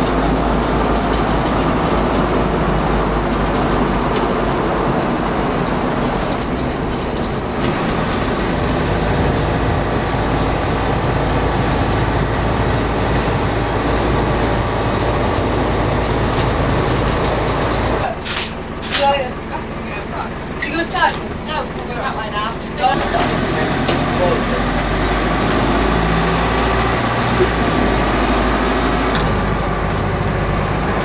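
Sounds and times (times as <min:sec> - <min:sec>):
bus engine drone: 0:00.0 - 0:31.0
road noise: 0:00.0 - 0:31.0.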